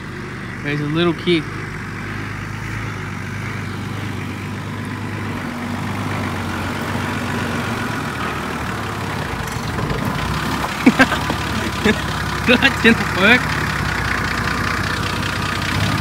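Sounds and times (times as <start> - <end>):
vehicle engine at low revs: 0.0 - 16.0.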